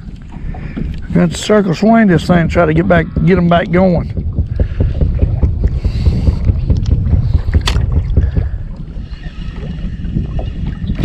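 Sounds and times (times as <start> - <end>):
water and wind against hull: 0.0 - 11.0.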